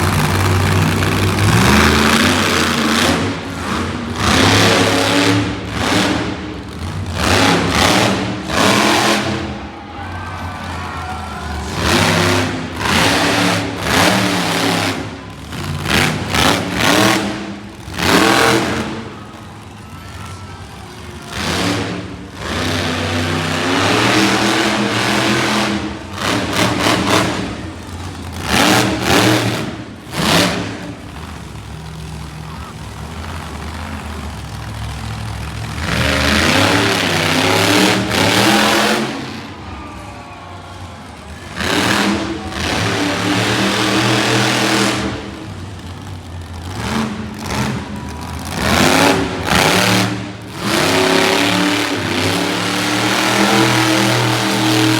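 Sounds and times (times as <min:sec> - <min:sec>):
monster truck engines revving: 0:00.0 - 0:54.9.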